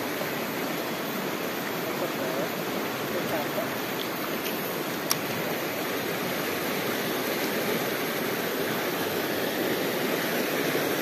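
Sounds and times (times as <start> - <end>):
river rushing past rocks: 0.0 - 11.0.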